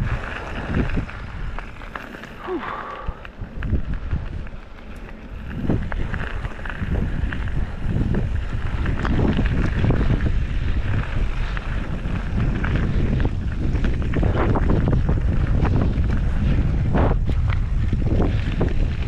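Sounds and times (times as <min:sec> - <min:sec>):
bike rattling and knocking: 0:00.0 - 0:19.0
bike tyre rumble: 0:00.0 - 0:19.0
wind buffeting microphone: 0:00.0 - 0:19.0.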